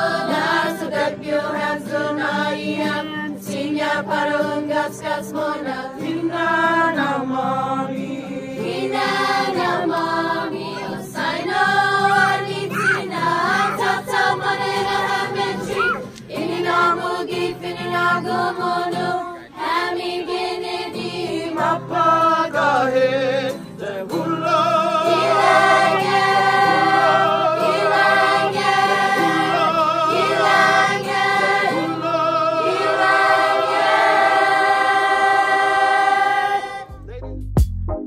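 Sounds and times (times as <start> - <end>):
choir singing in harmony: 0.0 - 37.0.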